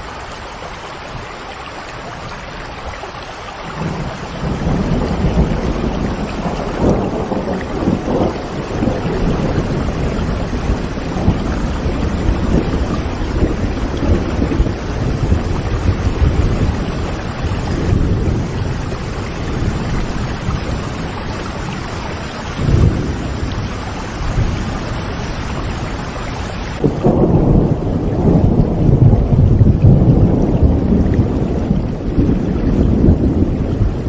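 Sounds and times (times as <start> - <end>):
heavy rain: 0.0 - 34.0
low rolling thunder: 3.6 - 34.0.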